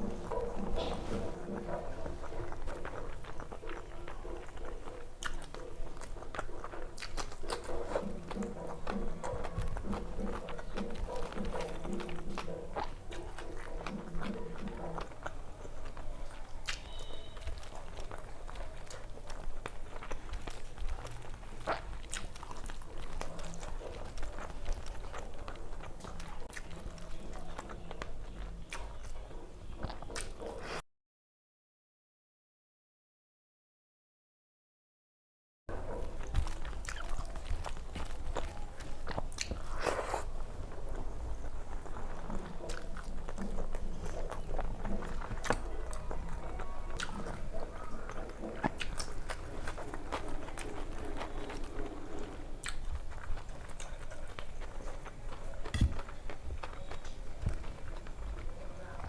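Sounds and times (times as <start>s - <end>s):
wet mouth clicks: 0.0s - 29.2s, 36.2s - 58.2s
chewing and crunching food: 0.0s - 30.8s, 35.7s - 59.0s.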